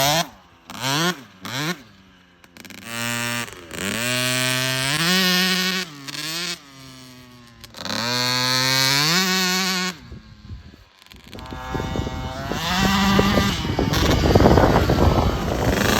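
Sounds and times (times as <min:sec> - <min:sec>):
dirt bike engine revving: 0:00.0 - 0:15.9.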